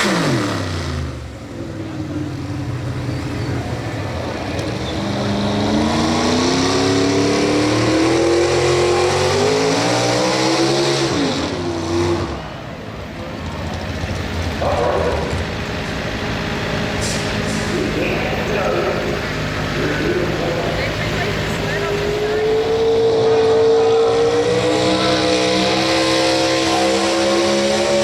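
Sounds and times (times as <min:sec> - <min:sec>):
truck engine revving: 0:00.0 - 0:28.0.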